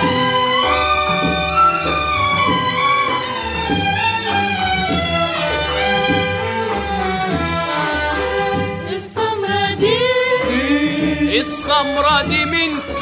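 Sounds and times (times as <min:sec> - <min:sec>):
orchestra with strings playing: 0:00.0 - 0:13.0.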